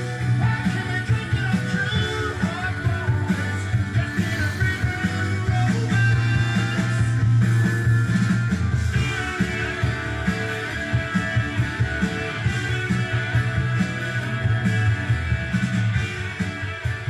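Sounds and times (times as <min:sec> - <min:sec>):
rock music from vinyl record: 0:00.0 - 0:17.0.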